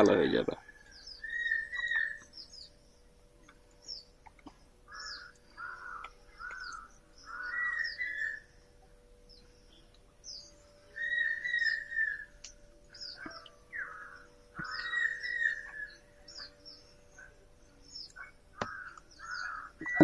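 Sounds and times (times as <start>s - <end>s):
harsh bird calls: 0.0s - 2.8s, 3.4s - 8.6s, 9.3s - 20.0s
high bird chirps: 0.8s - 2.8s, 4.9s - 8.6s, 9.3s - 20.0s.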